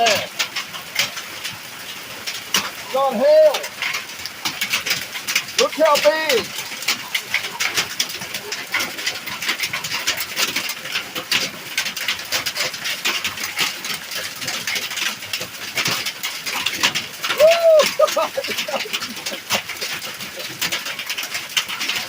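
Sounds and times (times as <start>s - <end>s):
heavy rain and hail pelting: 0.0s - 22.0s.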